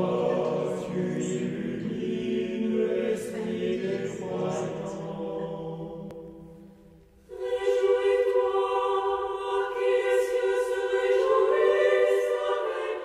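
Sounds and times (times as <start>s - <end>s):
choir singing long held notes: 0.0s - 13.0s.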